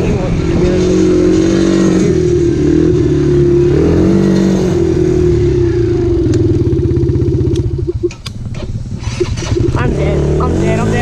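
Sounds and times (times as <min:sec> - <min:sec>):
dirt bike engine revving: 0:00.0 - 0:08.2, 0:08.9 - 0:11.0.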